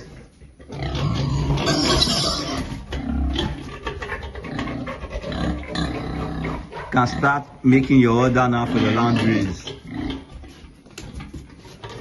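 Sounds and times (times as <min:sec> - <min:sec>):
pigs grunting and squealing: 0:00.0 - 0:12.0.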